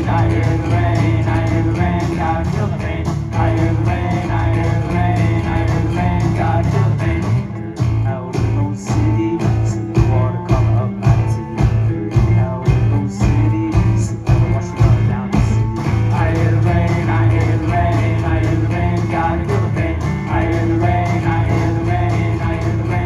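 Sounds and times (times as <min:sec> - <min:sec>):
drum hits: 0:00.0 - 0:23.0
live rock band playing: 0:00.0 - 0:23.0.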